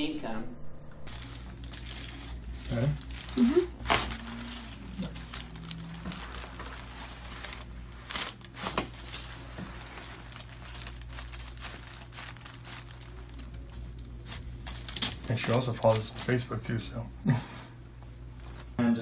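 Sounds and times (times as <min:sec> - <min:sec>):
paper crinkling and rustling: 0:01.1 - 0:16.8, 0:18.4 - 0:18.7.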